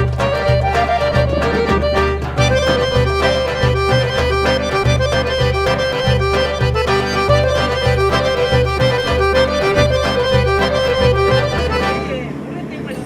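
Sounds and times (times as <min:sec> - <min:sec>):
instrumental music with pulsing bass: 0:00.0 - 0:12.1.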